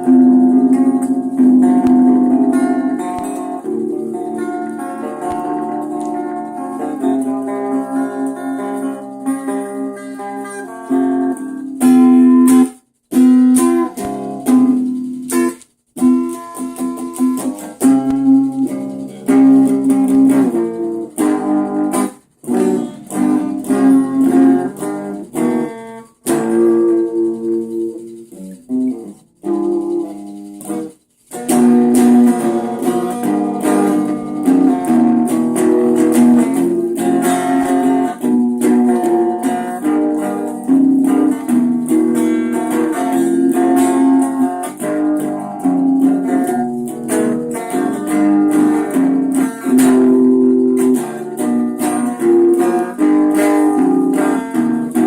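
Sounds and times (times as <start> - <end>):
plucked guitar: 0.0 - 55.0.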